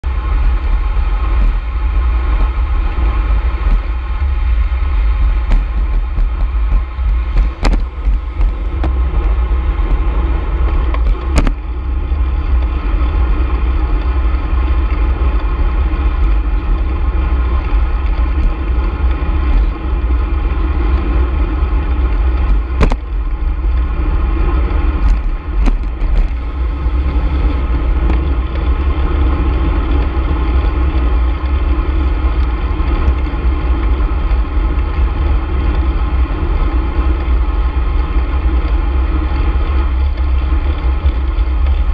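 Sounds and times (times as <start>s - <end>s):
vehicle mechanical hum: 0.0s - 41.9s
wind buffeting on microphone: 0.0s - 41.9s.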